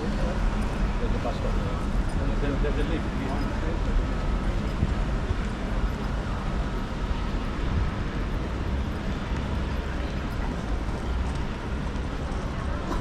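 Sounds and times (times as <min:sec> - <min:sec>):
faint city background noise: 0:00.0 - 0:13.0
wind buffeting microphone: 0:00.0 - 0:13.0.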